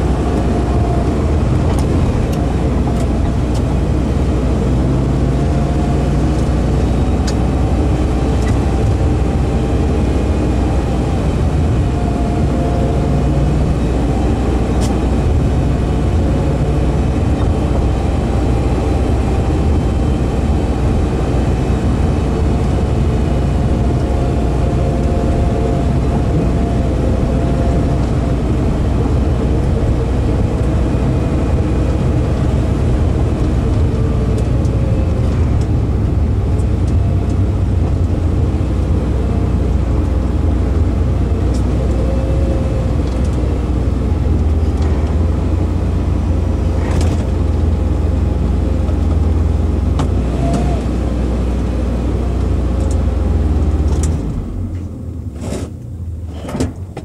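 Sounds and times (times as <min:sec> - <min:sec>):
car engine droning from inside cabin: 0:00.0 - 0:57.0.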